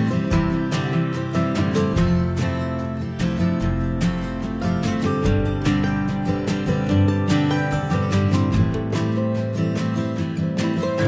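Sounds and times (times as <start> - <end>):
plucked acoustic guitar music: 0.0 - 11.0.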